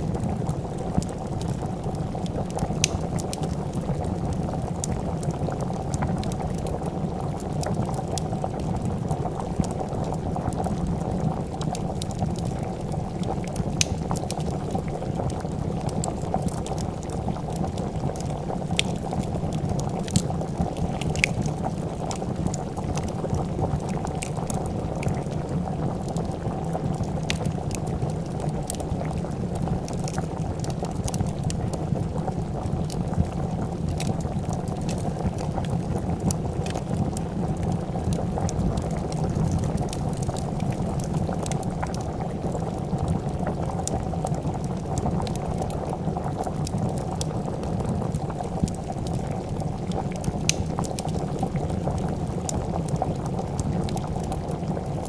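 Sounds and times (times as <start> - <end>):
fire crackling and popping: 0.0 - 55.0
soup bubbling in a pot: 0.0 - 55.0.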